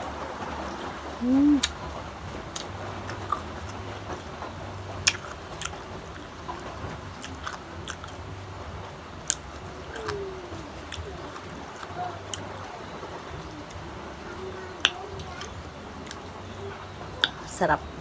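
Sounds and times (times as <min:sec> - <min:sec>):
crunchy mango being chewed: 0:01.2 - 0:18.0.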